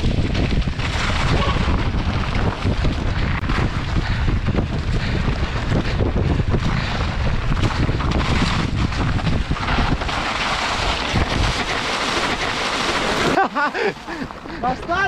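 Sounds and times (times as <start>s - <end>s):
bike clattering over rocky ground: 0.0s - 15.0s
wind buffeting microphone: 0.0s - 15.0s.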